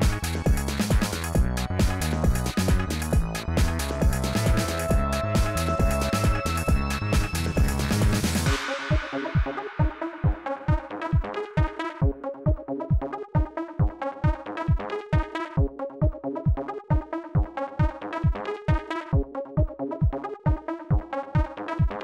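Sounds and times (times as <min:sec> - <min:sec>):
electronic dance music: 0:00.0 - 0:22.0.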